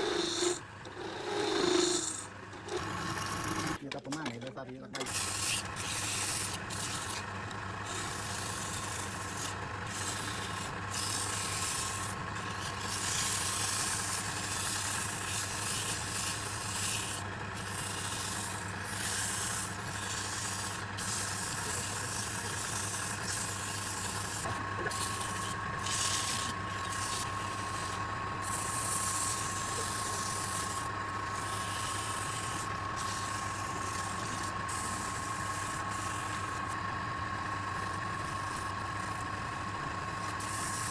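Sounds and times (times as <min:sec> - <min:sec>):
wood lathe humming: 0:00.0 - 0:03.8, 0:05.1 - 0:40.9
thin steady whine: 0:05.1 - 0:40.9.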